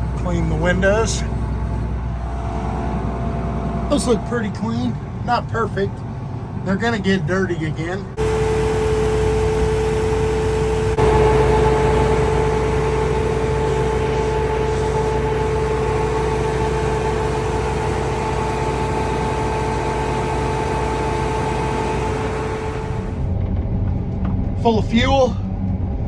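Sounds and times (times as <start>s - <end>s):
engine idling: 0.0s - 23.6s
steady whine: 0.0s - 26.0s.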